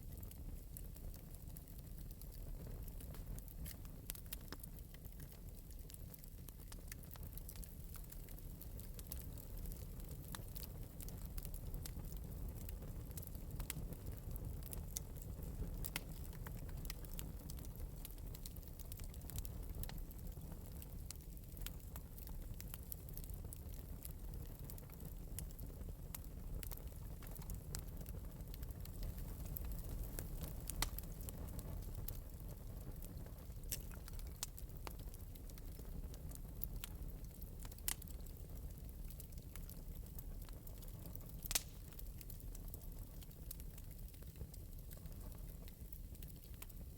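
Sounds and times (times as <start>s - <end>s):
low rumble of burning: 0.0s - 46.9s
wood fire crackling and popping: 0.0s - 46.9s.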